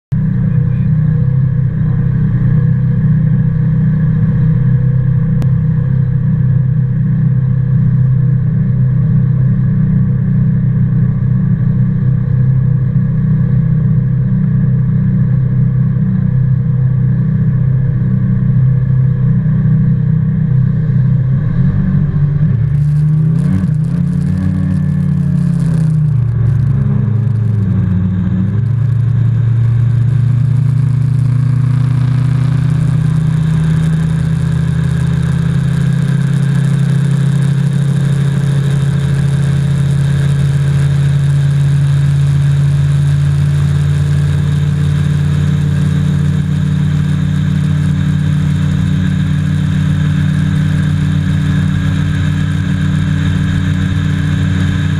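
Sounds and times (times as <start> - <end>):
boat engine droning: 0.1 - 54.9.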